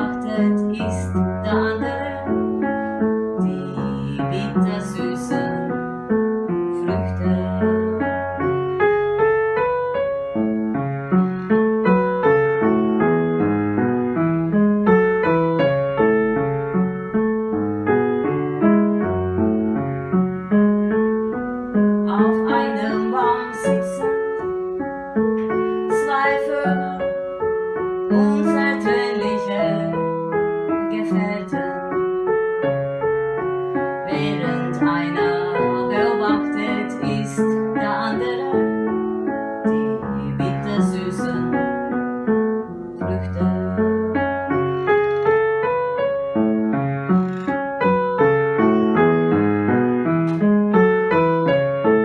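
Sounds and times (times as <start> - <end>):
instrumental piano music: 0.0 - 52.0.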